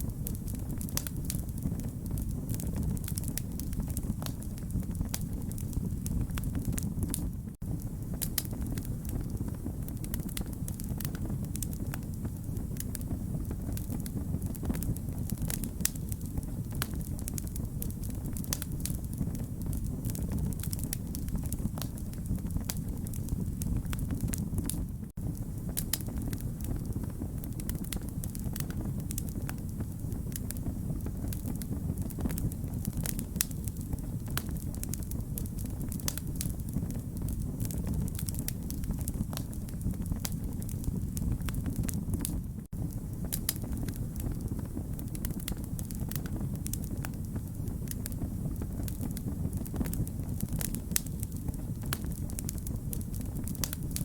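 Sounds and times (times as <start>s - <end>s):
flames rumbling: 0.0s - 54.0s
wood fire popping: 0.0s - 54.0s.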